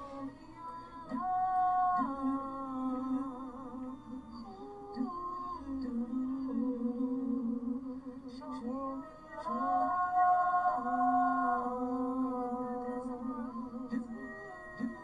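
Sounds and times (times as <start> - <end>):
person humming a melody: 0.0 - 15.0.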